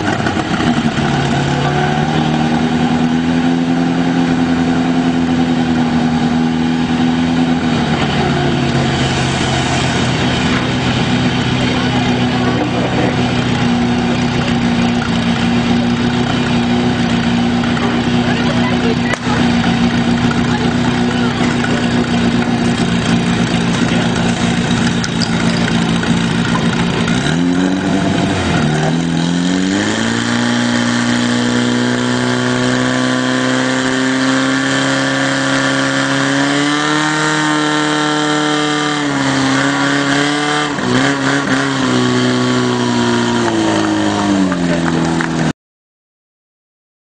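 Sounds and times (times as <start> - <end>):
pump engine droning: 0.0 - 45.5.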